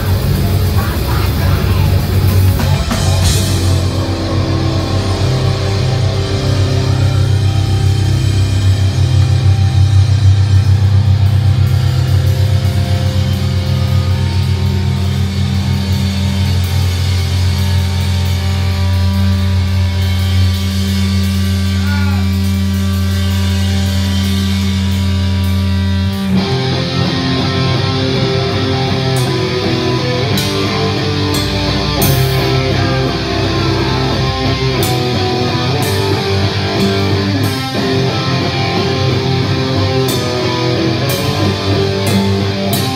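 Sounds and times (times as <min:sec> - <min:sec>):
cymbal crashes: 0:00.0 - 0:21.7, 0:28.1 - 0:42.9
punk band playing: 0:00.0 - 0:42.9.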